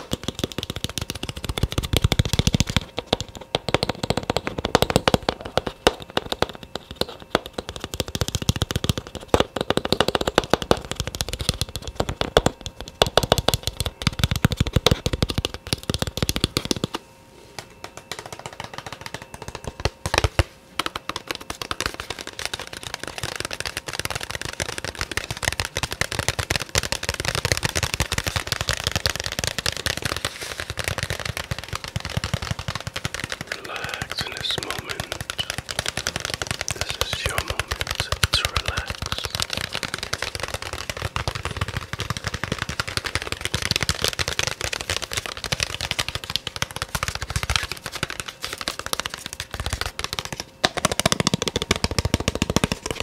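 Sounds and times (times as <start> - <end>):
fast tapping: 0.0 - 17.0, 17.8 - 53.0.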